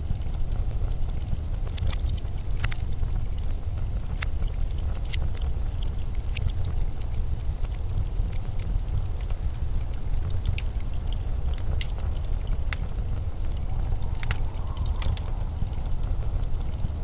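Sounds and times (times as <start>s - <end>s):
blizzard wind rumble: 0.0s - 17.0s
sharp ticks and crackles: 0.0s - 17.0s.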